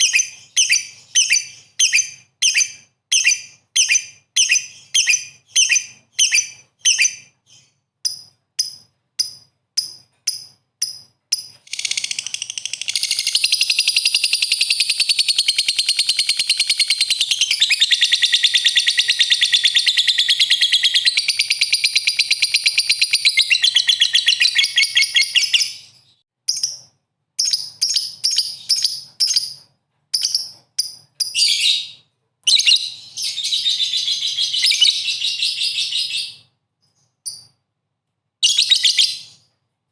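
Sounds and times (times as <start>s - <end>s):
songbird chirping and trilling: 0.0s - 37.6s, 38.4s - 39.5s.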